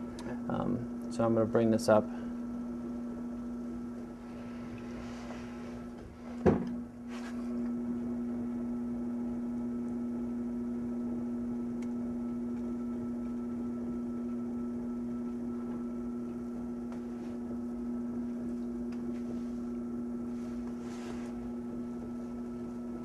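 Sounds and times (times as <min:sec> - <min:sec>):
potter's wheel motor humming: 0:00.0 - 0:23.0.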